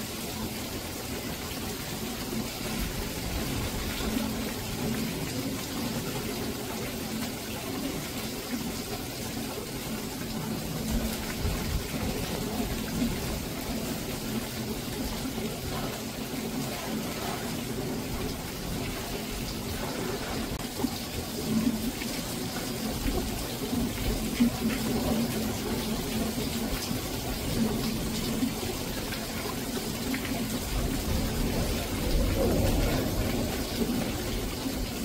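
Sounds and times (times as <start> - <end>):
rain falling: 0.0 - 35.0
water running and splashing: 0.0 - 35.0.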